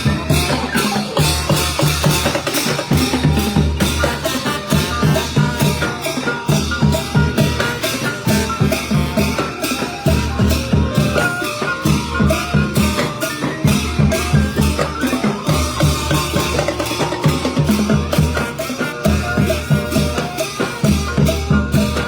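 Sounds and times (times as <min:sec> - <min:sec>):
brass band marching tune: 0:00.0 - 0:22.0
drums beating: 0:00.0 - 0:22.0
shaken percussion: 0:00.0 - 0:22.0.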